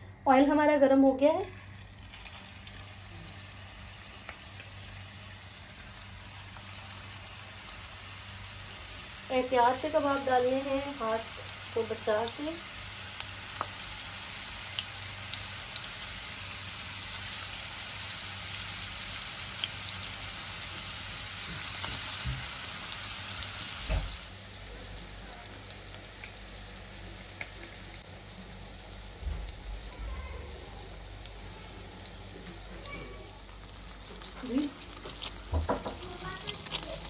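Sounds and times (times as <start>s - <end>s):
frying sizzle with crackles: 0.0s - 37.0s.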